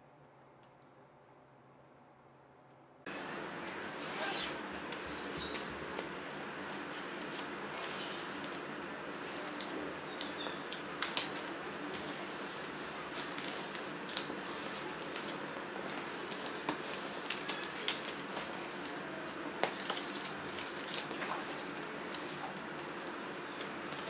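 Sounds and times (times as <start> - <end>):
paper rustling and crackling: 3.7 - 24.0.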